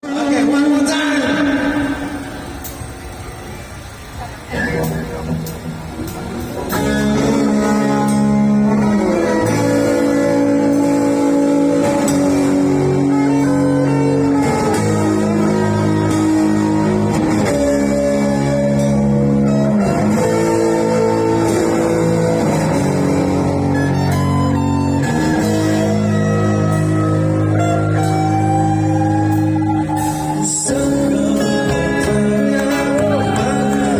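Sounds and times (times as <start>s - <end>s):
guitar playing held chords: 0.0s - 33.9s.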